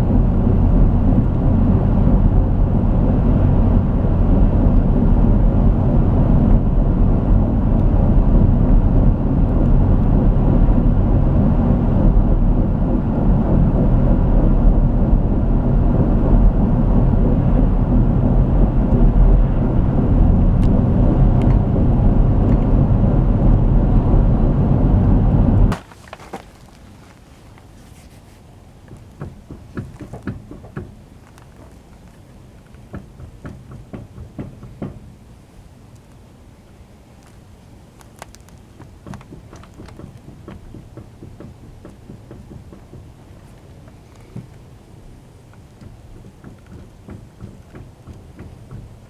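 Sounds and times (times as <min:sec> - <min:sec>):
van driving interior rumble: 0:00.0 - 0:49.0.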